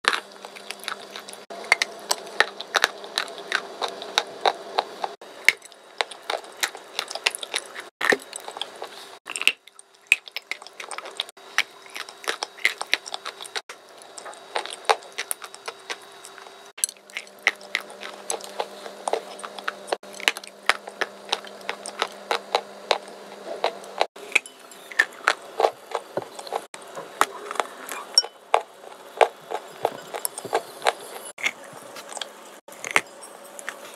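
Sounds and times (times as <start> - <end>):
crunchy chewing: 0.0 - 33.9.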